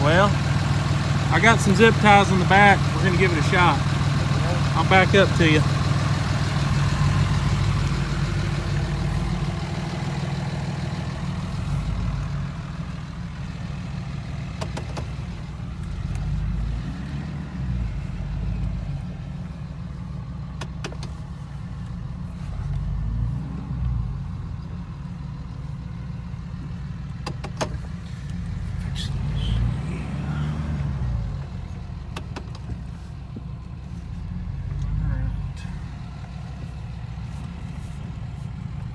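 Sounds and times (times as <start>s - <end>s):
diesel pickup engine running: 0.0s - 38.9s.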